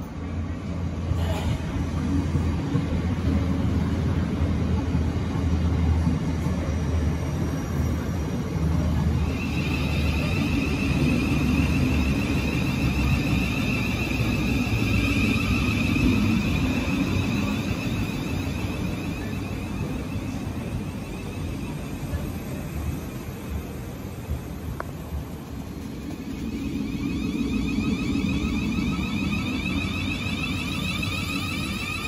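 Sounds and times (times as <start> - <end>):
high train whine: 0.0 - 32.0
train wheels rumbling: 0.0 - 32.0.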